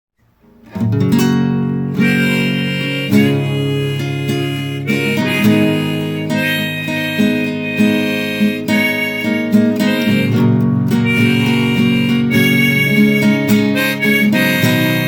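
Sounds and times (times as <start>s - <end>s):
acoustic guitar accompaniment: 0.2s - 15.0s
harmonica playing notes and chords: 1.8s - 15.0s.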